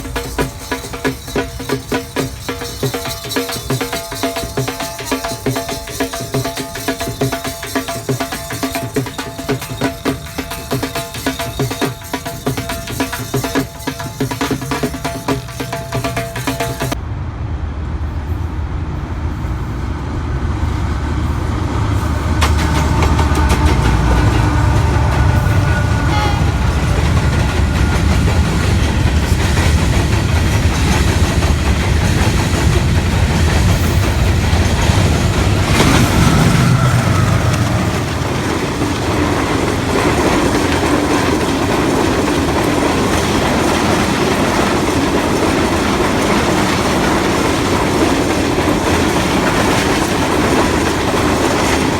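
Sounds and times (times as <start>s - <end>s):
wheels clattering on rails: 0.0s - 17.0s, 20.6s - 51.9s
passenger train rumbling past: 0.0s - 51.9s.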